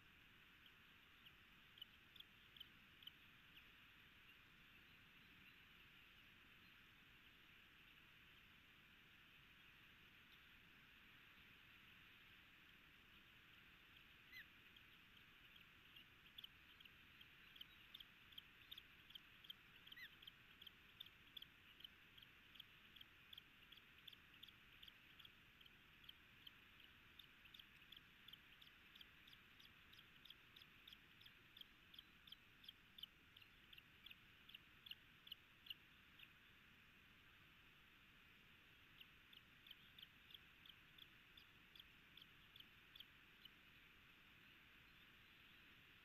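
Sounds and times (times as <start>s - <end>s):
ospreys chirping: 0.4s - 8.4s, 12.8s - 36.6s, 38.6s - 46.0s.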